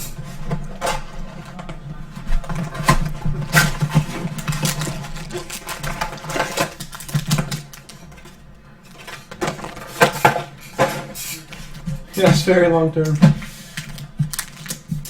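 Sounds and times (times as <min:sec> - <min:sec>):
card wrappers crinkling: 0:01.4 - 0:15.0.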